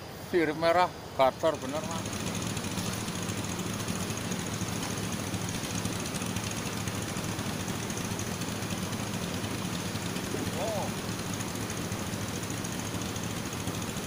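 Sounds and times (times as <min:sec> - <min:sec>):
background hiss: 0:00.0 - 0:14.0
engine humming steadily: 0:00.0 - 0:14.0.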